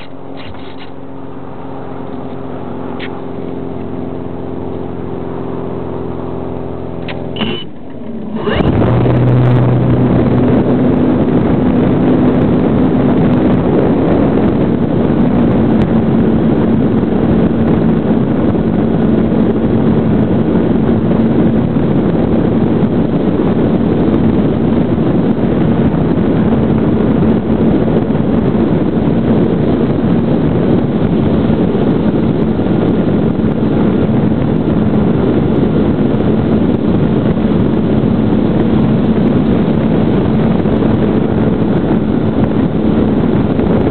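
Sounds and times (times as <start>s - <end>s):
electric motor and propeller hum: 0.0s - 43.9s
wind rush on microphone: 0.0s - 43.9s.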